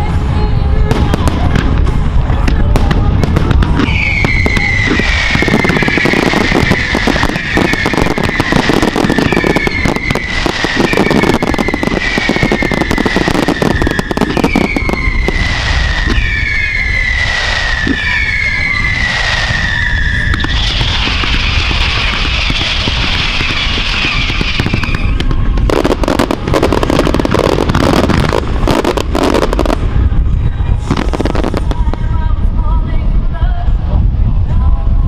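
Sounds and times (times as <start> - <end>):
whistling fireworks: 0.0 - 34.3
fireworks crackling and popping: 0.0 - 34.4
wind on microphone: 0.0 - 35.0.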